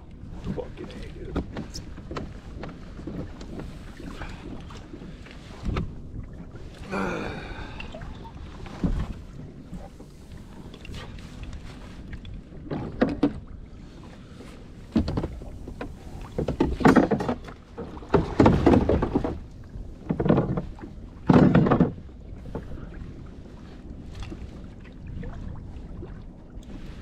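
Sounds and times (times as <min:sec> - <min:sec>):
water slapping against hull: 0:00.0 - 0:27.0.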